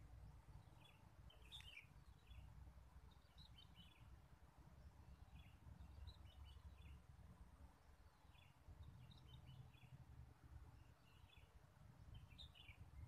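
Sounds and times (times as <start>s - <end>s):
small birds chirping: 0.0s - 7.1s, 7.8s - 10.1s, 10.7s - 13.0s.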